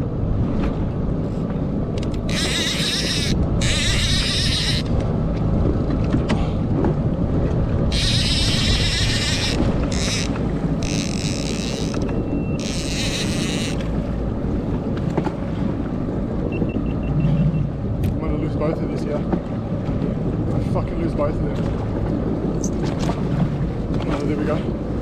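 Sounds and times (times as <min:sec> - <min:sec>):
boat engine running: 0:00.0 - 0:25.0
wind buffeting microphone: 0:00.0 - 0:25.0.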